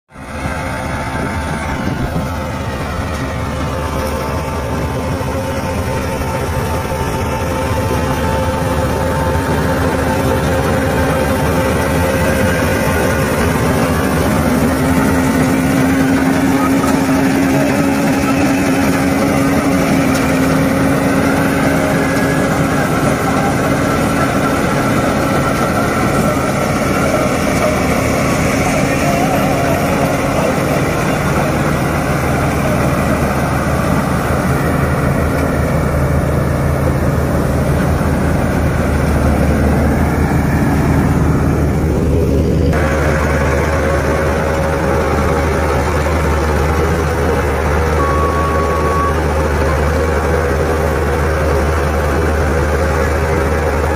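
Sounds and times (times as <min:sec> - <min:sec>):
combine harvester running: 0:00.1 - 0:53.9.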